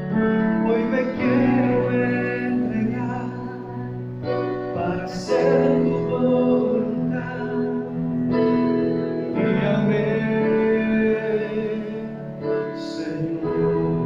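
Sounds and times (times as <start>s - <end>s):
sustained instrumental chords: 0.0s - 14.0s.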